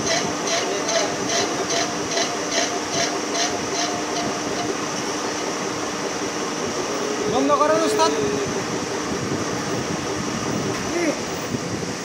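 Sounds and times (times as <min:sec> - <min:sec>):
lathe tool scraping workpiece: 0:00.0 - 0:10.2
machine hum: 0:00.0 - 0:12.0.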